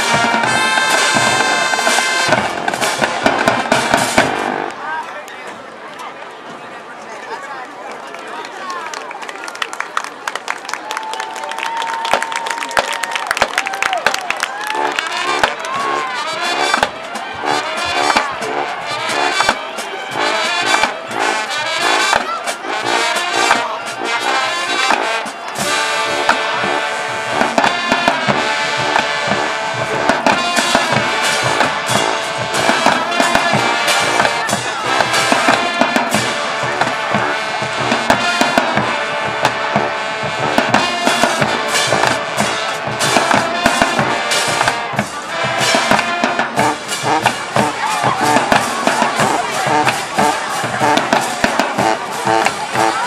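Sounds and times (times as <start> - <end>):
marching drums: 0.0 - 4.7, 12.0 - 53.0
marching band brass: 0.0 - 5.1, 10.6 - 53.0.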